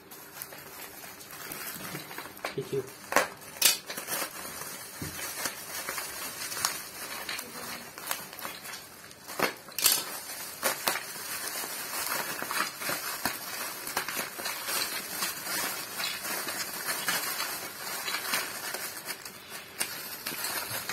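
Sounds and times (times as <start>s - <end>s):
bubble wrap crinkling: 0.0s - 20.9s.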